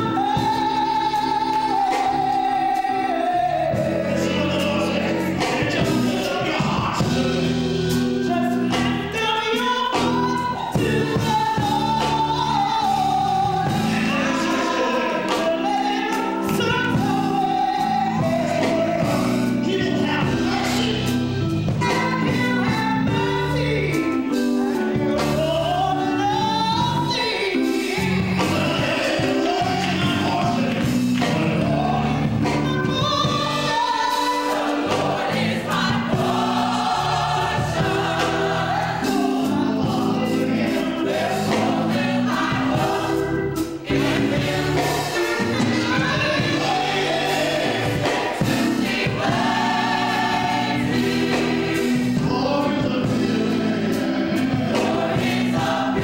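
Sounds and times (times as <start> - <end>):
gospel choir singing: 0.0 - 56.0
instrumental accompaniment: 0.0 - 56.0
lead singer: 0.0 - 56.0.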